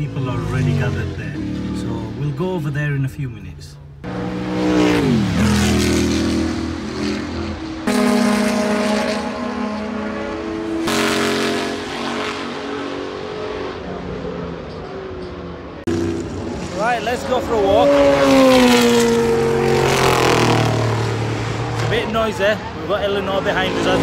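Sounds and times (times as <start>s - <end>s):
racing car engines running hard: 4.0s - 24.0s.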